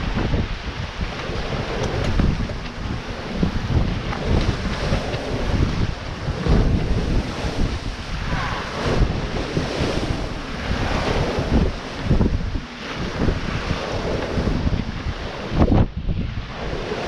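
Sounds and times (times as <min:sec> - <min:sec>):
sea waves rushing: 0:00.0 - 0:17.0
wind buffeting microphone: 0:00.0 - 0:17.0.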